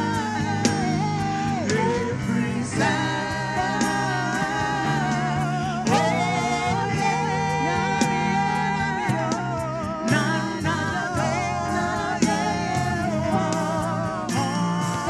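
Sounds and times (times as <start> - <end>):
instrumental backing with percussive beat: 0.0 - 15.0
woman singing into a microphone: 0.0 - 15.0.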